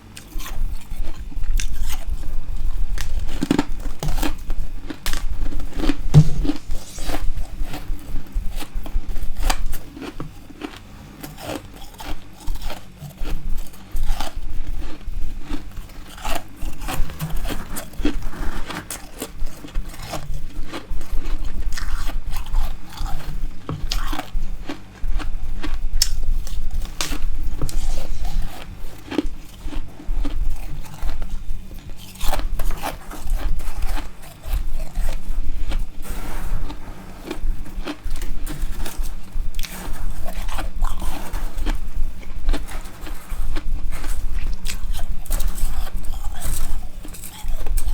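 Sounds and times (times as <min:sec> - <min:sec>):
crunching and chewing ice: 0:00.0 - 0:47.9.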